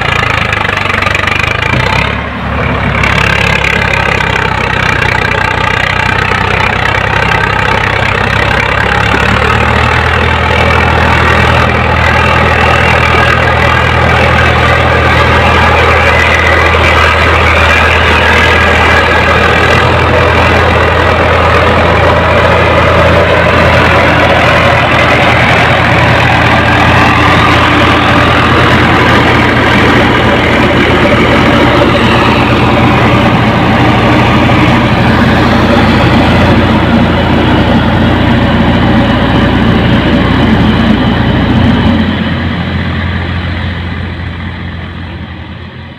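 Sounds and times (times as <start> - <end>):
heavy diesel engines running: 0.0 - 45.9.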